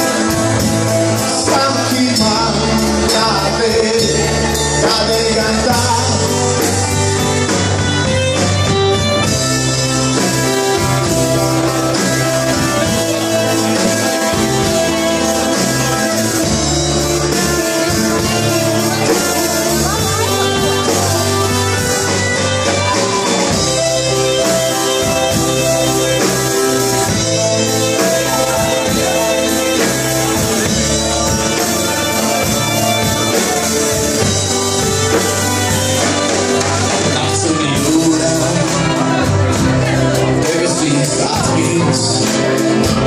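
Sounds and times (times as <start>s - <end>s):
live band playing: 0.0s - 43.0s
person singing: 0.0s - 43.0s.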